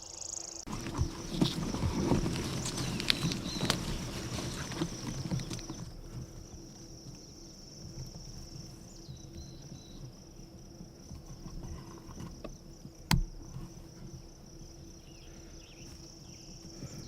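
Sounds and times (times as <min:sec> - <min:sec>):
high insect trill: 0:00.0 - 0:17.0
rustling: 0:00.7 - 0:17.0.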